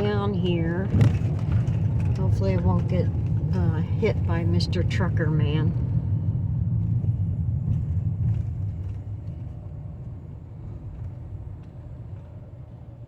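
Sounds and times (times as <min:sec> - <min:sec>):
van engine and road noise: 0:00.0 - 0:13.0.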